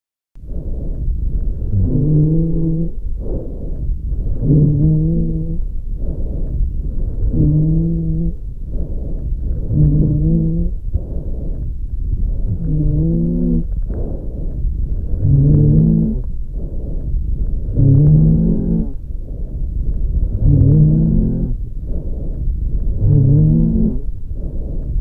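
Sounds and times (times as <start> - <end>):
lung breath sounds through stethoscope: 0.4 - 25.0.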